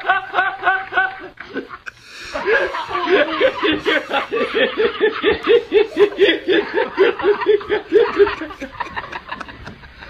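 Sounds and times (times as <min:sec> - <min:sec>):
man laughing: 0:00.0 - 0:10.0.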